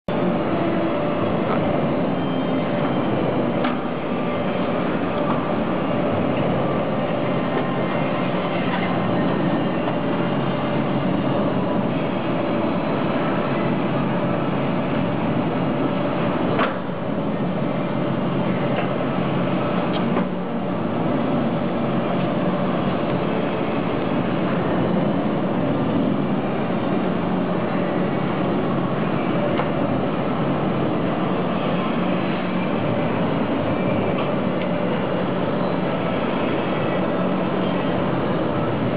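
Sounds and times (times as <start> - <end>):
welding machine hum and hiss: 0.1 - 38.9.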